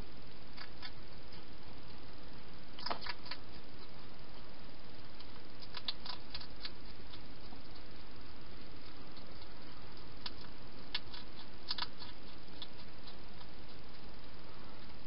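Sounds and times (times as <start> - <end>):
steady hiss: 0.0 - 15.0
hedgehog crunching food: 0.4 - 2.1, 2.7 - 4.5, 5.1 - 15.0.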